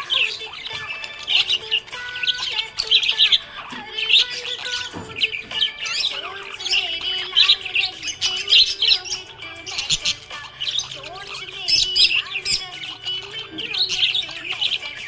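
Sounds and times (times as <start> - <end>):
budgerigar chirping and warbling: 0.0 - 15.0.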